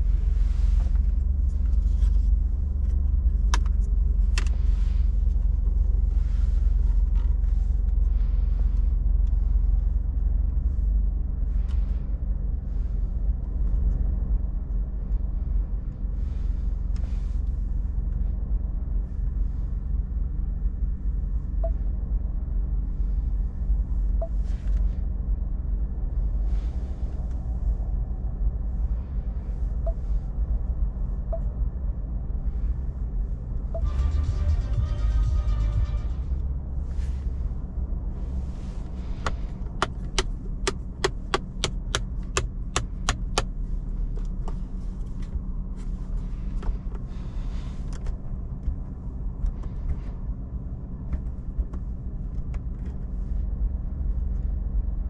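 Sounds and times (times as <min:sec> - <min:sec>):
engine idling low rumble: 0:00.0 - 0:55.0.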